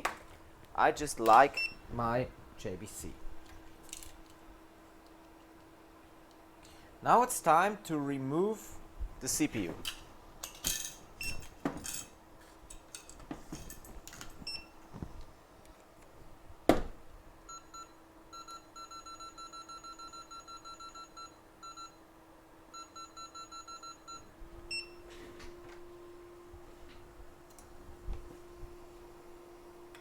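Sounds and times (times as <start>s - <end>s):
steady low hum: 0.0s - 20.1s, 22.2s - 30.0s.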